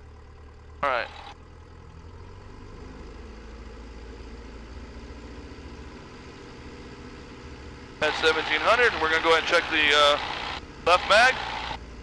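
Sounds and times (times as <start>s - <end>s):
piston aircraft engine running: 0.0s - 1.7s, 3.9s - 12.0s.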